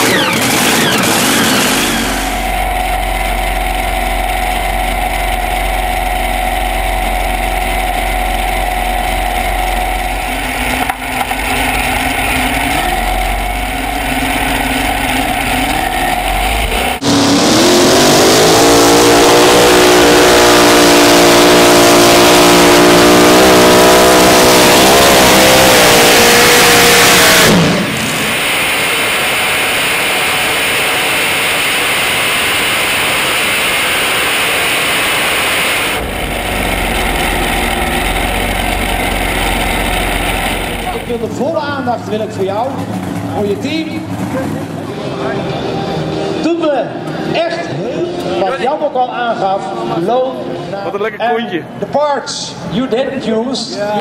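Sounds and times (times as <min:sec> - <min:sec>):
tractor engine revving: 0:00.0 - 0:51.1.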